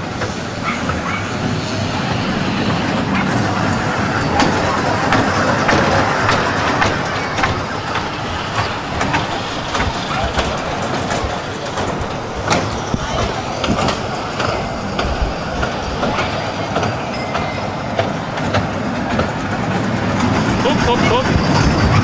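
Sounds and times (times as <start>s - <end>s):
small train running on track: 0.0s - 22.0s
wheels clicking over rail joints: 0.0s - 22.0s.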